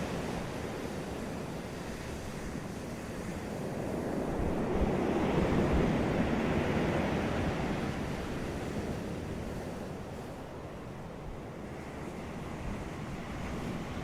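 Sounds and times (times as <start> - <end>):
sea waves breaking on beach: 0.0 - 14.0.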